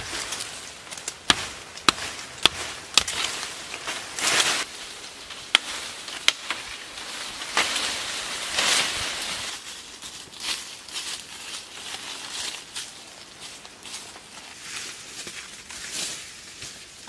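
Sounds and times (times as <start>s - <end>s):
leafy branches rustling: 0.0s - 17.0s.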